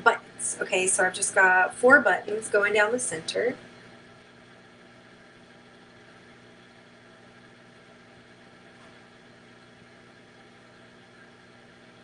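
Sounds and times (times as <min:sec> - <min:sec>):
faint background hum with hiss: 0:00.0 - 0:12.0.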